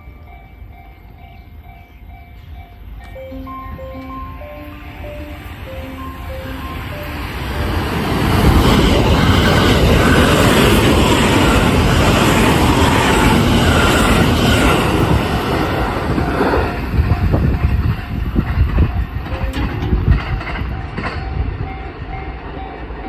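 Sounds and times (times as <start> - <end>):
train passing at high speed: 0.0 - 23.0.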